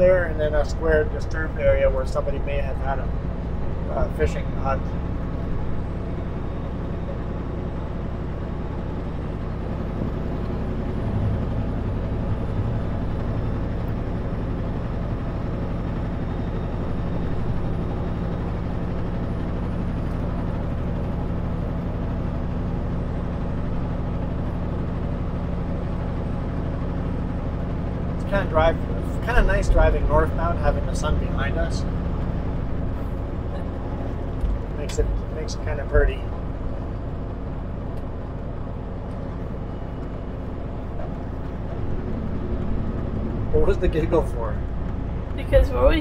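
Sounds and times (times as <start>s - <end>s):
road noise: 0.0s - 46.0s
truck diesel engine hum: 0.0s - 46.0s.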